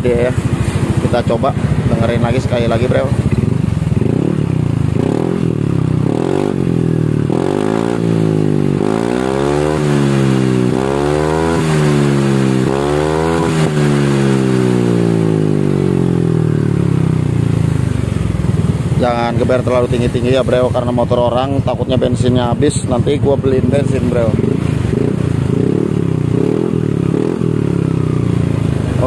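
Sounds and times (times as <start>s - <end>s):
scooter engine idling: 0.0s - 9.0s, 13.8s - 29.0s
scooter engine revving: 0.0s - 29.0s.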